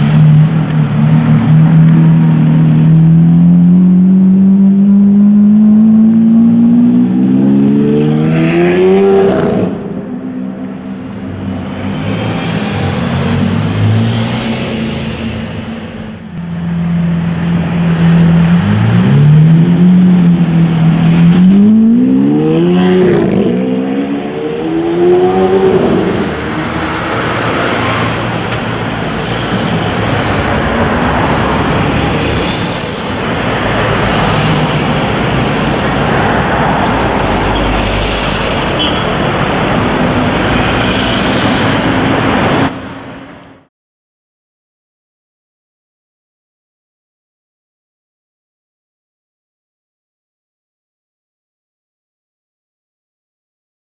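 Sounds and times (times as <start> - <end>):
city traffic noise: 0.0 - 43.7.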